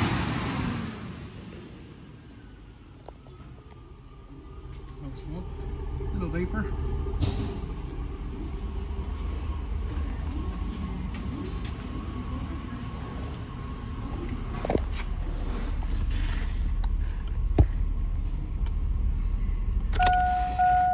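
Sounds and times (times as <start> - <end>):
car engine idling: 1.1 - 20.9.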